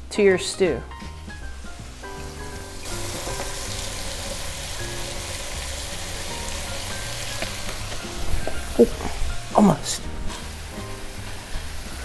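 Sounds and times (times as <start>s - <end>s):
background music: 0.0s - 12.0s
vegetables sizzling in a pan: 0.9s - 12.0s.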